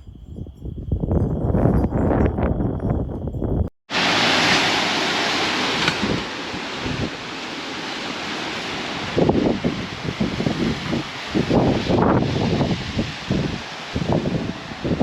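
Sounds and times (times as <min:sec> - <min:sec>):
storm wind and rain hiss: 0:00.0 - 0:15.0
wind gusting against microphone: 0:00.0 - 0:15.0.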